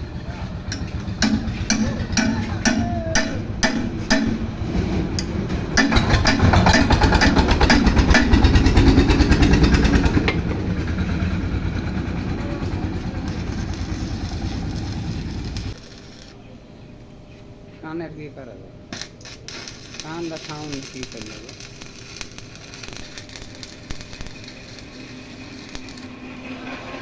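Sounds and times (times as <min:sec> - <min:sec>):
engine running: 0:00.0 - 0:16.4, 0:20.4 - 0:27.0.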